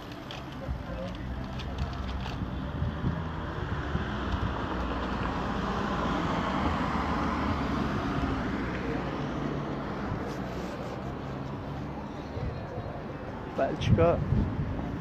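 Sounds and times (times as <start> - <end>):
steady traffic noise: 0.0 - 15.0.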